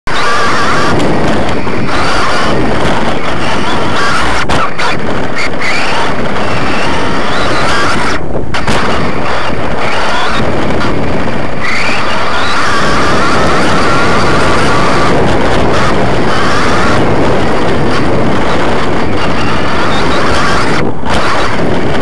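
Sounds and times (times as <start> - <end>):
electric motor whine: 0.1 - 22.0.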